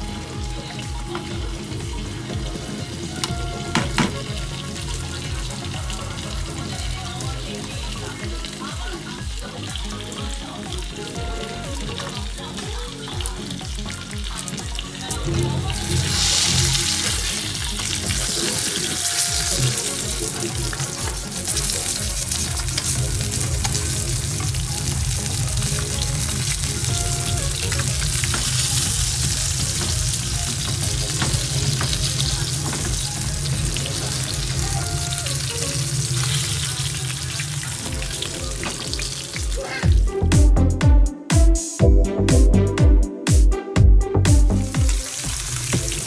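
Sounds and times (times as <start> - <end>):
electronic music with a beat: 0.0 - 36.4, 37.4 - 46.0
fish sizzling in oil: 0.0 - 39.8, 44.9 - 46.0.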